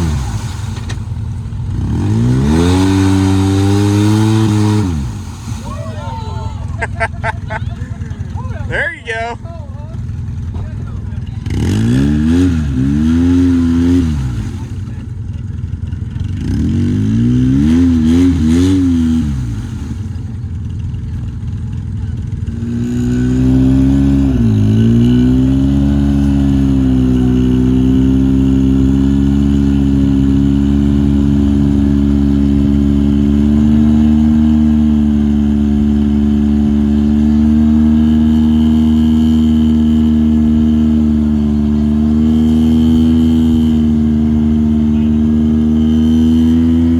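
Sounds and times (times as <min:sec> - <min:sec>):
utility vehicle engine revving: 0:00.0 - 0:46.9.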